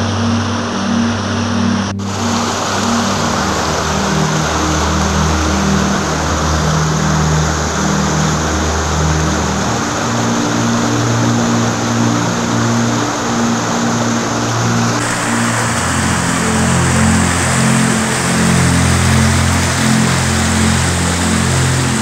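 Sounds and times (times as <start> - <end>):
slow low-note music: 0.0 - 22.0
water rushing over rapids: 2.0 - 22.0.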